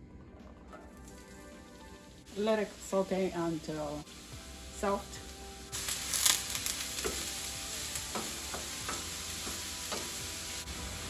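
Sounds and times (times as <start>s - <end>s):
onions sizzling in a frying pan: 1.1s - 11.0s.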